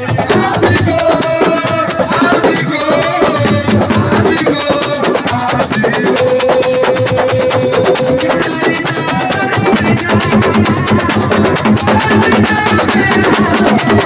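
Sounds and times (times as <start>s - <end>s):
fast dense drumming: 0.0s - 14.0s
held melody line: 0.0s - 14.0s.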